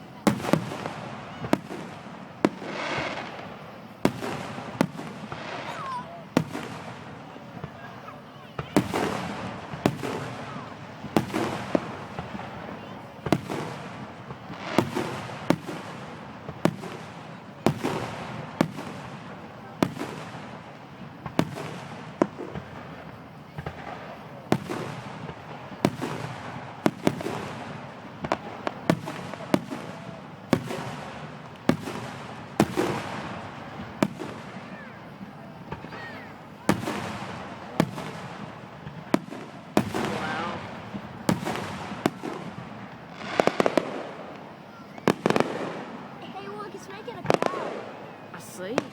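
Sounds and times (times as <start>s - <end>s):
crowd murmuring: 0.0s - 48.9s
rumble and crackle of fireworks: 0.0s - 48.9s.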